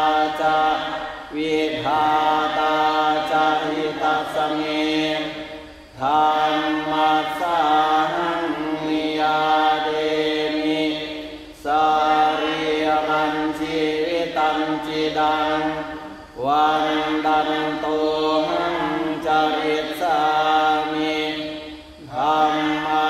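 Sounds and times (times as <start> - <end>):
group chanting in unison: 0.0 - 23.0.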